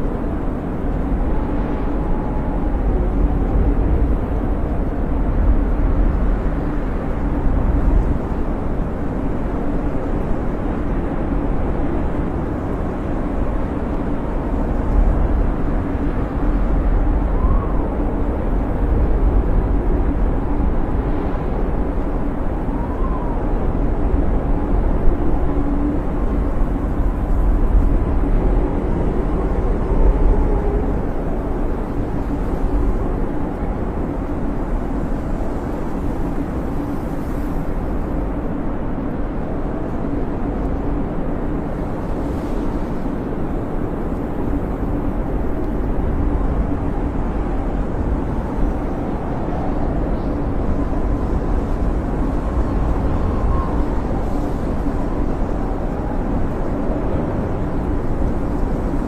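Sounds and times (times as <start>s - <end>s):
blizzard wind howling: 0.0s - 59.0s.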